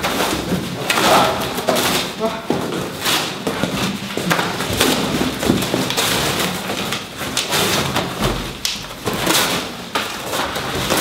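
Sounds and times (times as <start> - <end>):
cardboard ripping and crumpling: 0.0 - 11.0.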